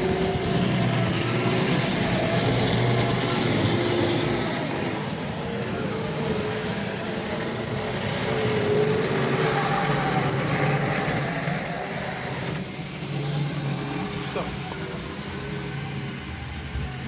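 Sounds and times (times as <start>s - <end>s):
model train motor hum: 0.0s - 17.0s.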